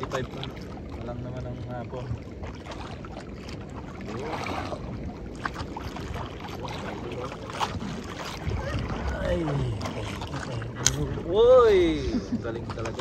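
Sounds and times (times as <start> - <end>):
waves lapping against canoe: 0.0 - 13.0
wind buffeting microphone: 0.0 - 13.0.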